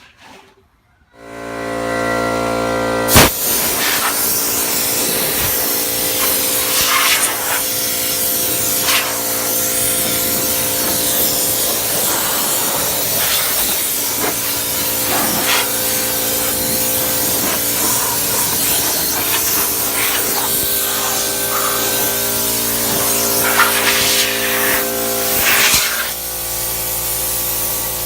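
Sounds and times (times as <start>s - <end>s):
air compressor humming: 1.2s - 28.0s
air spray gun hissing: 3.1s - 28.0s.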